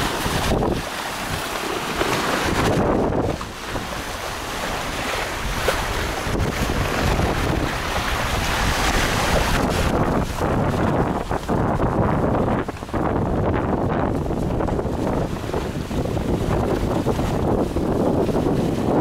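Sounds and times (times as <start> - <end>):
water splashing along hulls: 0.0 - 19.0
wind buffeting microphone: 0.0 - 19.0.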